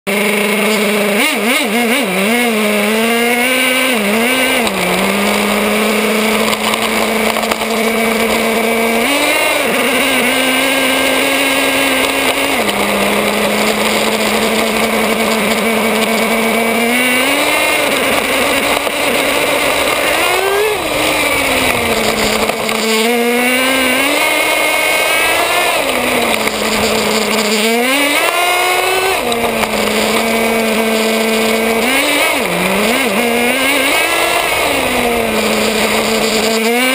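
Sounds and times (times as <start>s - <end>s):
small engine buzzing and revving: 0.1s - 36.9s
tyres hissing on asphalt: 4.1s - 36.9s.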